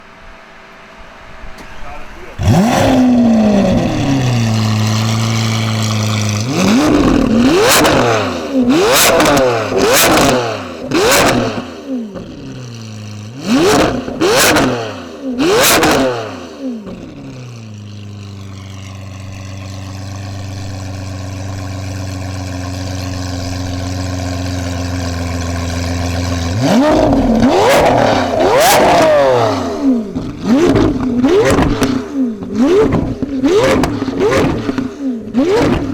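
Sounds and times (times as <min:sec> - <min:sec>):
car engine idling: 0:01.2 - 0:35.9
exhaust pops and crackles: 0:01.5 - 0:14.8, 0:16.8 - 0:35.9
car engine revving: 0:01.6 - 0:35.9.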